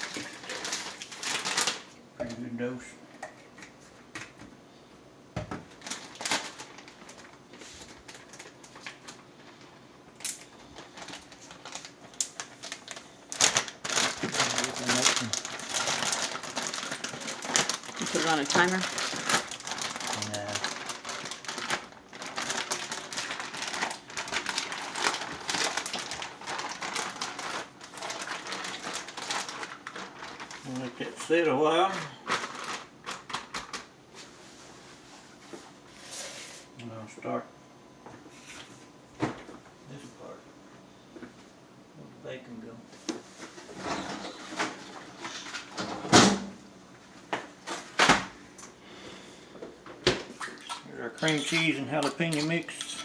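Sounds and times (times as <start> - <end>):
food preparation rustling: 0.0 - 2.5, 5.4 - 36.8, 38.1 - 39.6, 42.9 - 46.1, 47.0 - 53.0.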